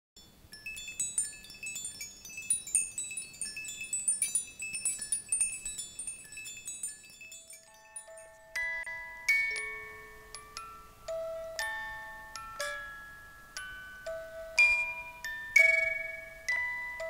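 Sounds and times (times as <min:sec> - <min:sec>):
high tinkling chimes: 0:00.2 - 0:17.0
lower held chime notes: 0:00.7 - 0:17.0.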